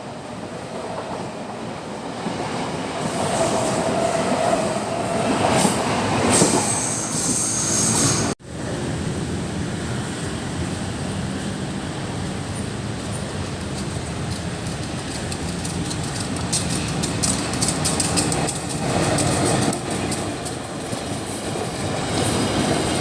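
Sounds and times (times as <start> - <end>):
train wheels squealing on rails: 0.0 - 8.4, 12.5 - 23.0.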